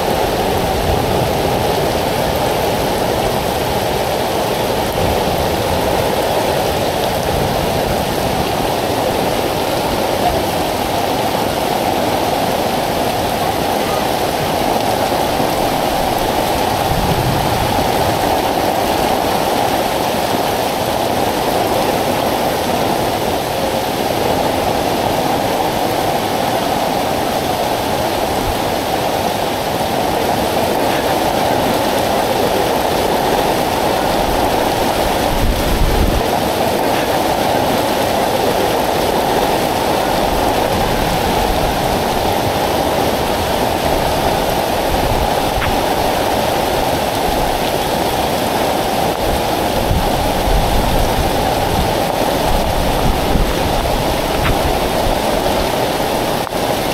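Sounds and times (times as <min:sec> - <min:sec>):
heavy rain on water: 0:00.0 - 0:56.9
rain on umbrella: 0:00.0 - 0:56.9.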